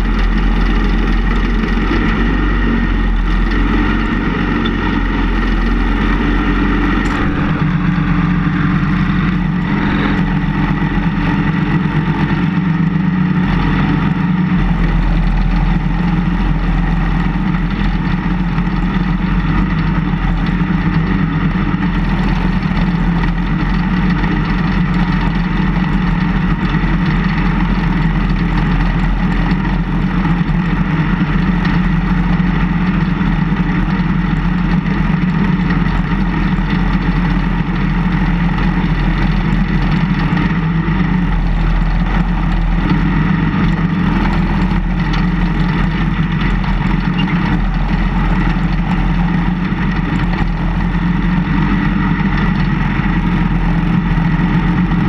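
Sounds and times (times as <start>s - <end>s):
plow blade pushing snow: 0.0s - 55.0s
snowplow engine running: 0.0s - 55.0s.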